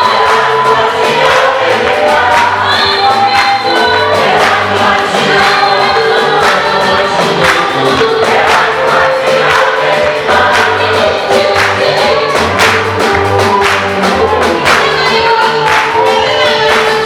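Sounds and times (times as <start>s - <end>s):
band with bass and beat: 0.0s - 17.0s
choir singing gospel: 0.0s - 17.0s.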